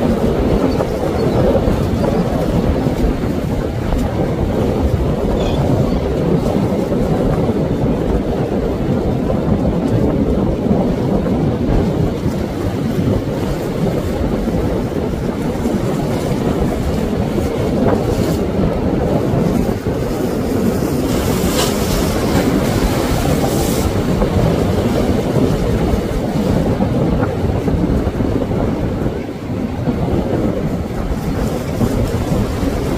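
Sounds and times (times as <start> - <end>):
waves breaking against rocks: 0.0 - 32.9
wind buffeting microphone: 0.0 - 32.9.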